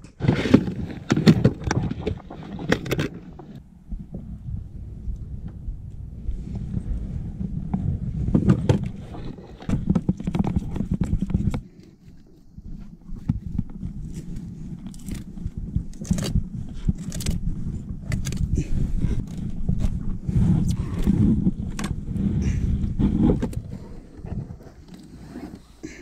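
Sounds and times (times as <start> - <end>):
wind rumble on microphone: 0.0 - 25.9.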